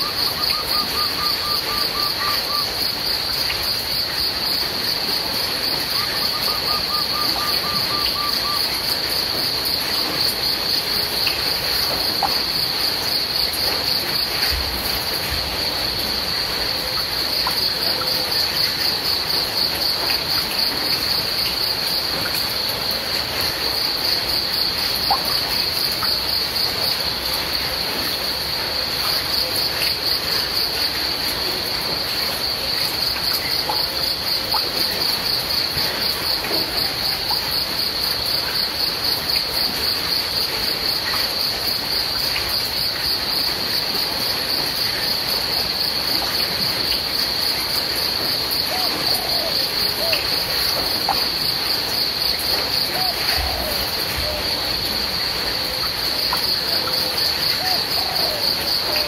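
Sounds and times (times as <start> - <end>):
crickets chirping: 0.0 - 59.0
rain falling: 0.0 - 59.0.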